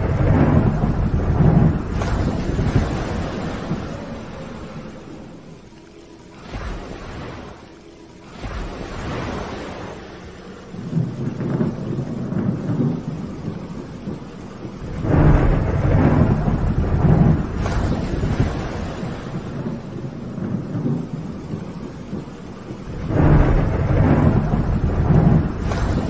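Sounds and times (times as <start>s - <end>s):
rolling thunder: 0.0s - 5.8s, 8.3s - 26.0s
steady rain: 0.0s - 26.0s.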